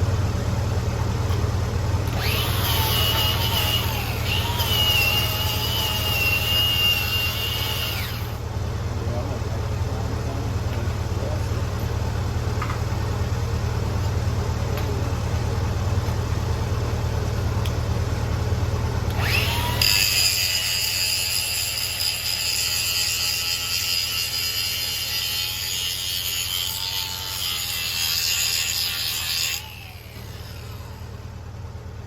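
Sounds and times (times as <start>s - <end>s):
welder engine running: 0.0s - 32.0s.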